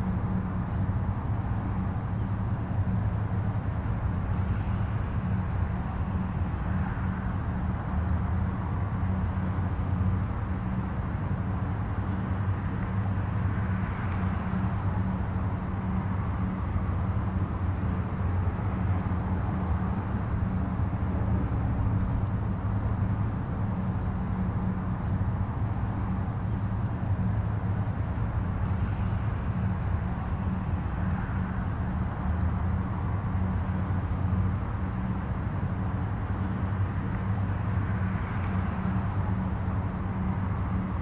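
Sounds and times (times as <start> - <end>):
constant low hum: 0.0 - 41.0
distant highway traffic: 0.0 - 41.0.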